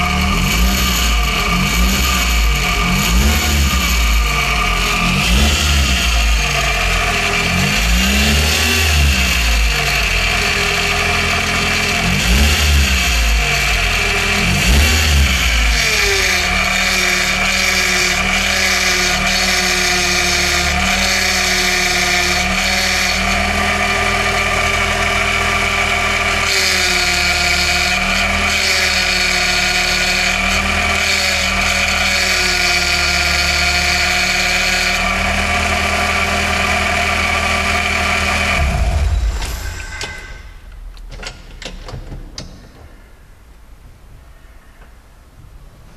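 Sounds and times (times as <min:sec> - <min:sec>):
car engine running: 0:00.0 - 0:40.1
power steering pump whining: 0:00.0 - 0:42.6.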